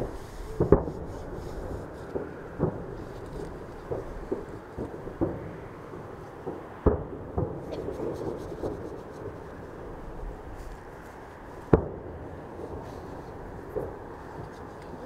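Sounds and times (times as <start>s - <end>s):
distant fireworks bangs: 0.0s - 11.0s, 11.6s - 15.0s
small fireworks pops: 0.0s - 15.0s.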